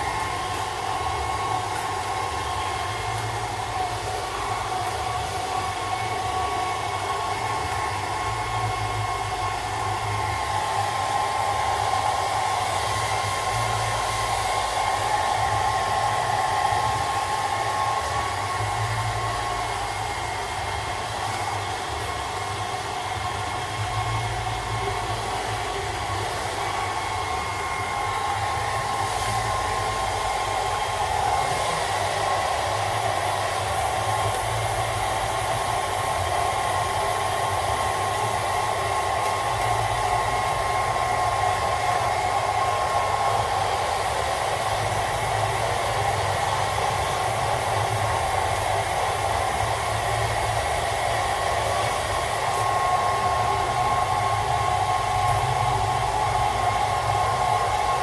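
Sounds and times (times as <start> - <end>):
hairdryer running: 0.0 - 58.0.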